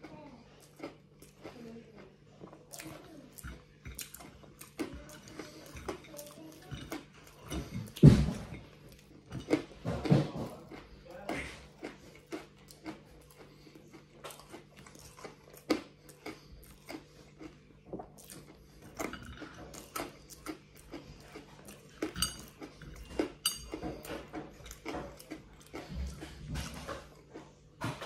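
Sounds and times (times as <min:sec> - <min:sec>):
chewing and crunching: 0:00.0 - 0:28.0.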